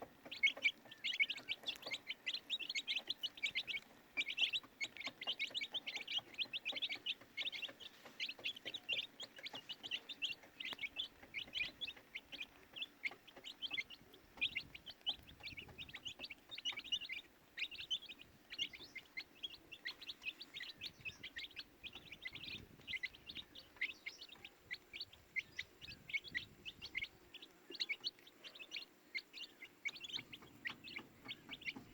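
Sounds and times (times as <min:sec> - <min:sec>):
baby chicks peeping: 0:00.0 - 0:31.9.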